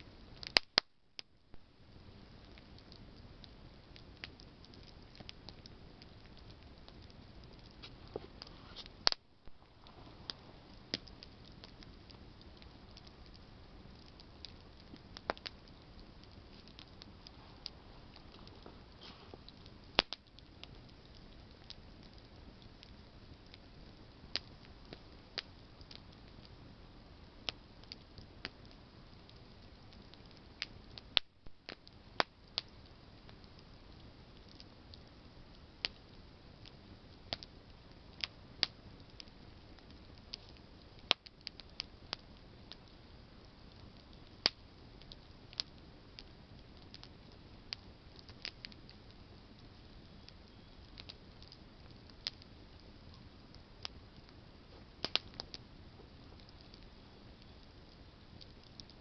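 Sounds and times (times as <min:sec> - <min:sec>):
campfire crackling and popping: 0:00.0 - 0:59.0
low hiss of flames: 0:00.0 - 0:59.0.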